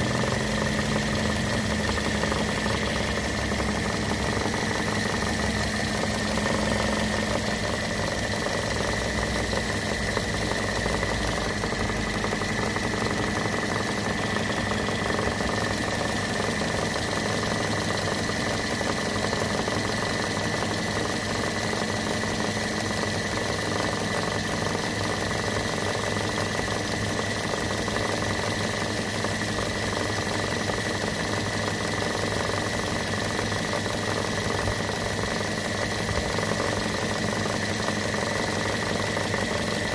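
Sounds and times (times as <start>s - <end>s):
car engine idling: 0.0s - 39.9s
steady high whine: 0.0s - 39.9s.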